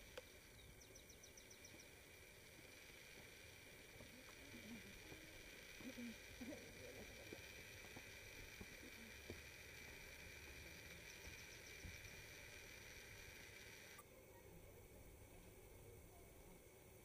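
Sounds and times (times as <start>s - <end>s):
faint distant sounds: 0.0s - 17.0s
steady low hiss: 0.0s - 17.0s.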